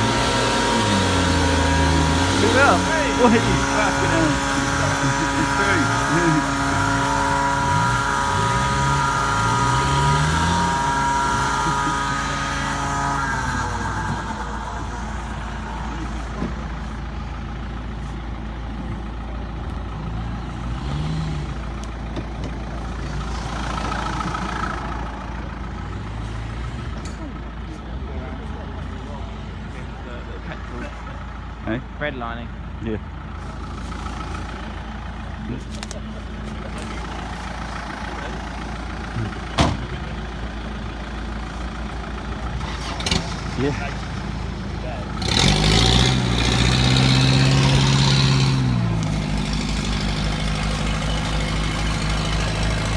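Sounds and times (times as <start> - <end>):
off-road engine revving: 0.0 - 52.9.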